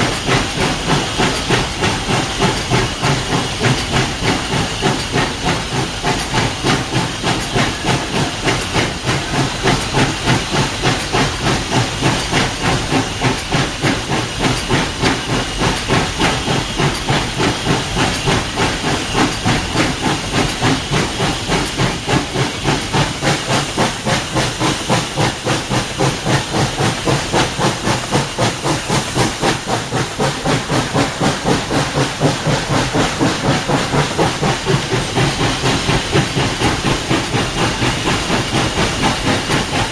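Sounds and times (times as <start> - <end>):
steam hiss: 0.0 - 39.9
steam locomotive exhaust chuffs: 0.0 - 39.9.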